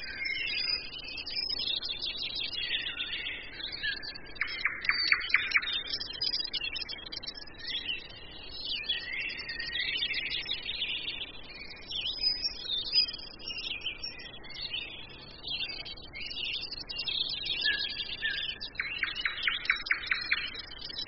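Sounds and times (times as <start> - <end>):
songbirds chorus: 0.0 - 21.0.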